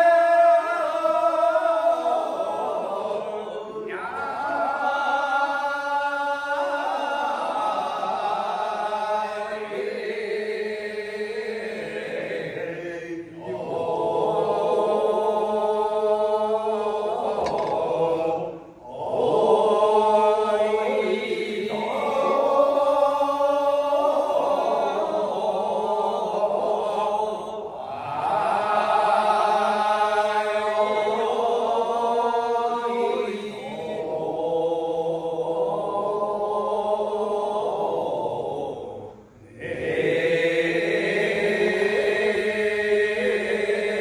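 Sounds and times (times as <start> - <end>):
men chanting in unison: 0.0 - 44.0.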